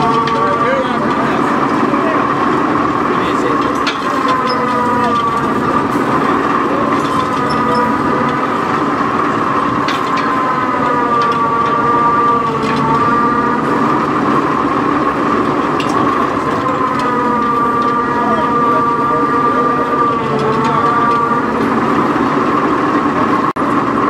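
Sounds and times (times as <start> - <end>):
diesel engine running with whine: 0.0 - 24.0.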